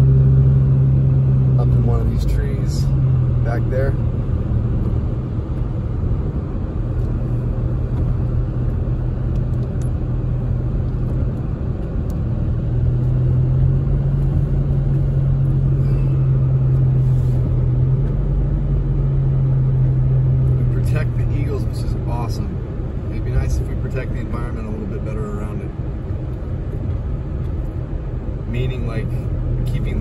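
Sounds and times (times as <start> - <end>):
car engine and road hum: 0.0 - 30.0.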